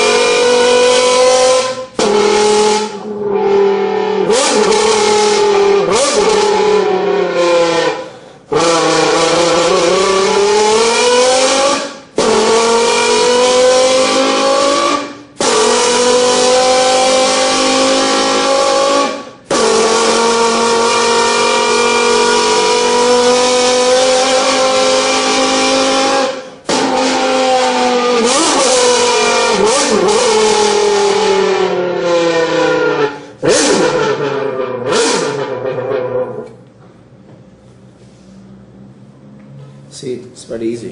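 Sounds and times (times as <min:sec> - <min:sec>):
mouth imitating revving engine: 0:00.0 - 0:36.6.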